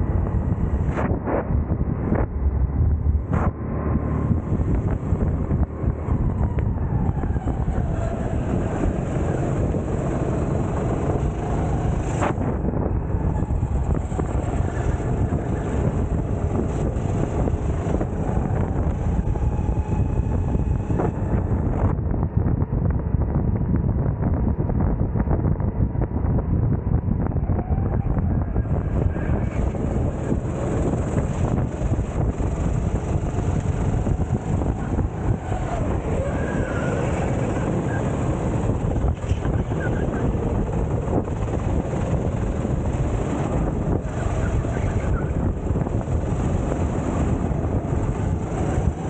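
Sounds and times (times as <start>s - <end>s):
kart engine revving: 0.0s - 21.9s, 27.7s - 49.0s
wind buffeting microphone: 0.0s - 49.0s.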